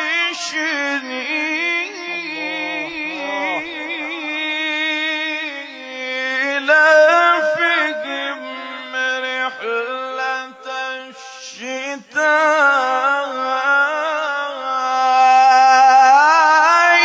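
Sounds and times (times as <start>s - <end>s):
person chanting recitation: 0.0s - 17.0s.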